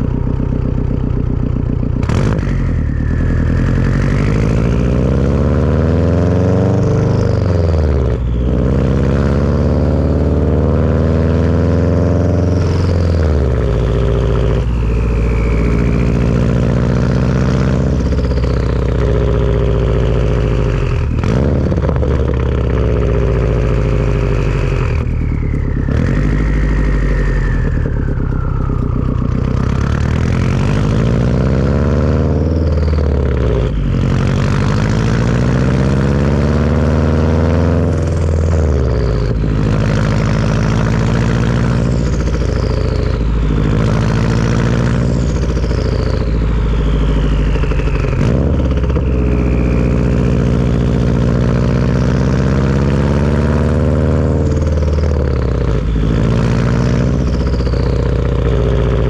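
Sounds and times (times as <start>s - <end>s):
car engine accelerating: 0.0s - 59.0s
turbo whistle: 0.0s - 59.0s.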